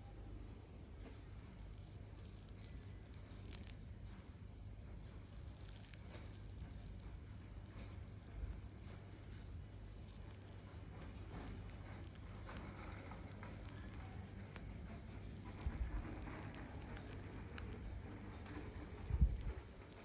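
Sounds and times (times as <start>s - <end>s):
slime crackling and squishing: 1.2s - 20.0s.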